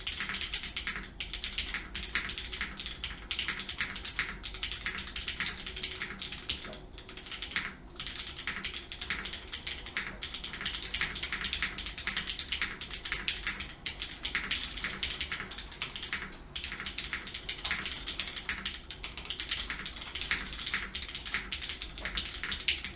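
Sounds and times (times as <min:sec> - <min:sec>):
fast mechanical keyboard typing: 0:00.0 - 0:22.9.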